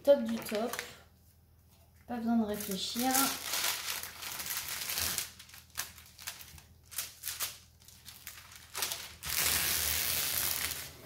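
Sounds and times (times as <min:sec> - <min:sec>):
plastic film crinkling: 0:00.0 - 0:01.0, 0:02.4 - 0:11.0.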